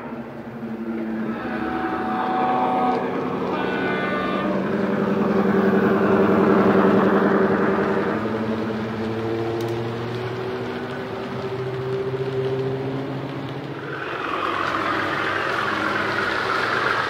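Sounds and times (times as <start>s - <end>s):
diesel engine drone from speaker: 0.0s - 17.0s.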